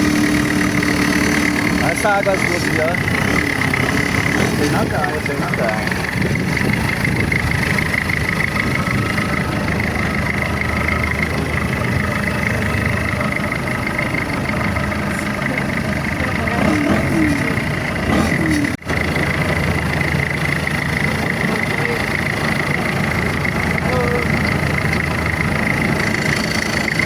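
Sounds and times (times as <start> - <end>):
boat engine running: 0.0 - 27.0.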